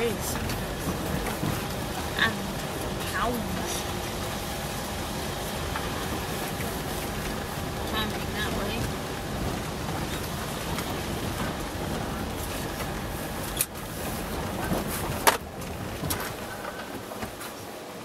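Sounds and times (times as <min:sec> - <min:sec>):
van engine and tyre rumble: 0:00.0 - 0:18.0.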